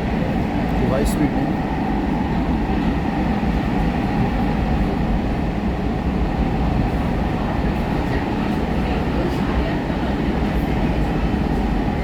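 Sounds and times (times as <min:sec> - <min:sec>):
metro train rumbling on track: 0:00.0 - 0:12.0.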